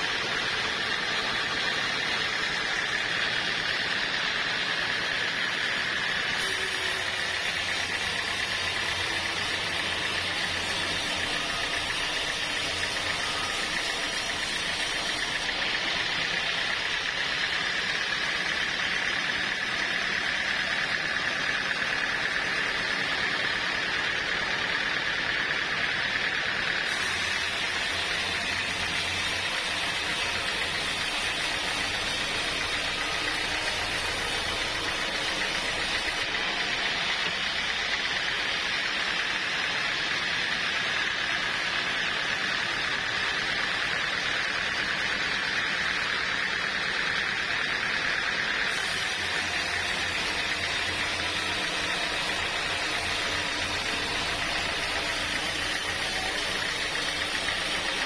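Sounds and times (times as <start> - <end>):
sawmill saw cutting wood: 0.0 - 58.0.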